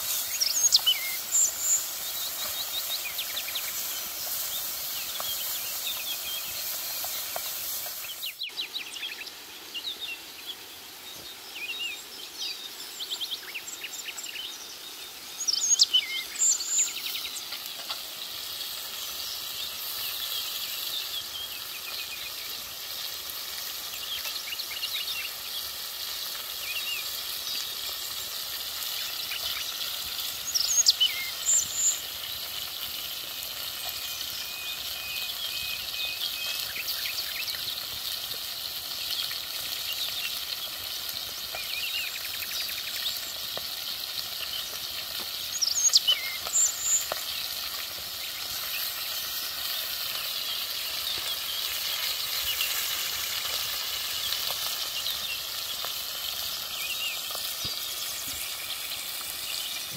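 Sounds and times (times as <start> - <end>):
birds chirping: 0.0 - 59.9
fish sizzling in a metal pan: 0.0 - 59.9.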